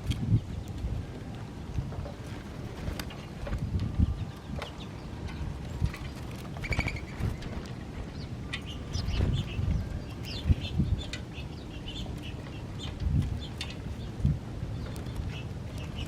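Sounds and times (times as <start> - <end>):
low rumbling noise: 0.0 - 16.0
small birds chirping: 0.0 - 16.0.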